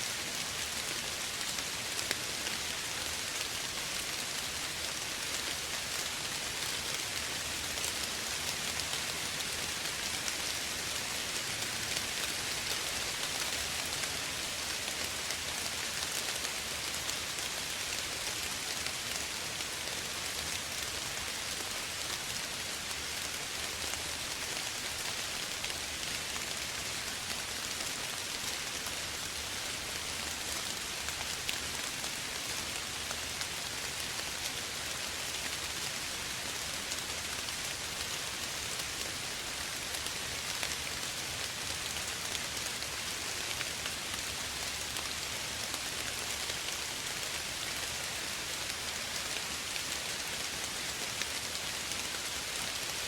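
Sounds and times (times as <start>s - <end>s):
gentle rain falling: 0.0s - 53.0s.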